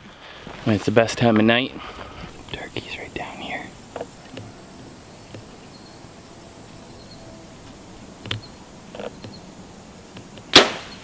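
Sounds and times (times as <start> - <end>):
faint chirps: 1.9 - 11.0.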